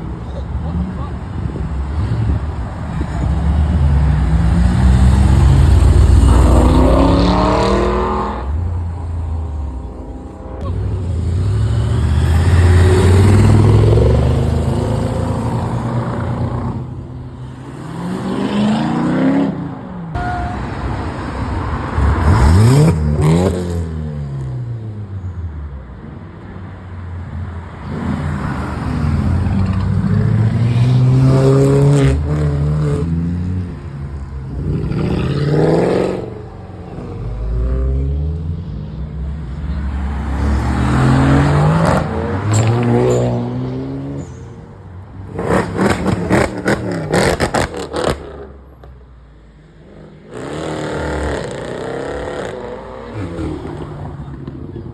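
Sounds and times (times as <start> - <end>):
cars accelerating past: 0.6 - 25.2, 27.6 - 48.9.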